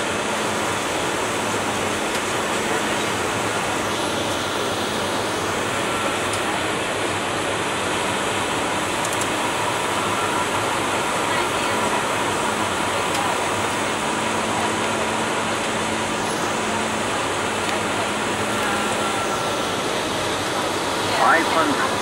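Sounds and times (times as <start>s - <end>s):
airflow and jet engine noise: 0.0s - 22.0s
faint steady whine: 0.0s - 22.0s.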